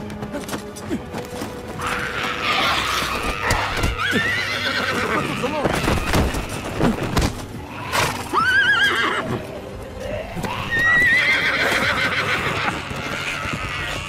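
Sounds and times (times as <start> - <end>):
horses whinnying: 1.7 - 14.0.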